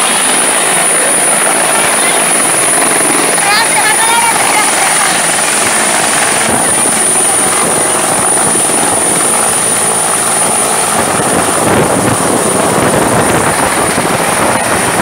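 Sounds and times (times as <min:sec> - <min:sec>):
helicopter rotor running: 0:00.0 - 0:15.0
high turbine whine: 0:00.0 - 0:15.0.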